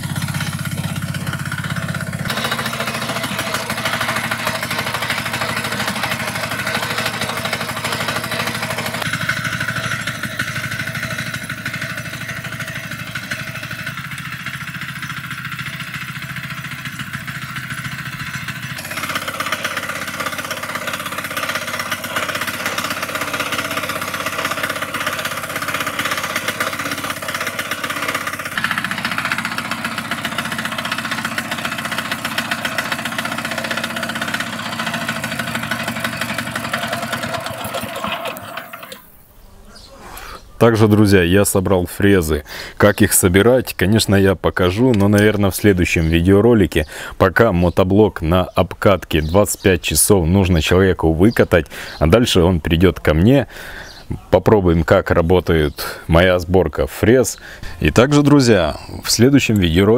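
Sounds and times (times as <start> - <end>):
diesel engine chugging: 0.0 - 39.2, 40.2 - 59.9.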